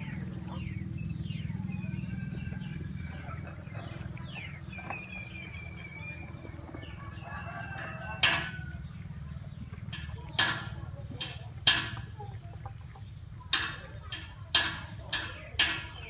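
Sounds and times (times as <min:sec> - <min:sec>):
puppies chirping and calling: 0:00.0 - 0:16.0
puppies eating: 0:00.0 - 0:16.0.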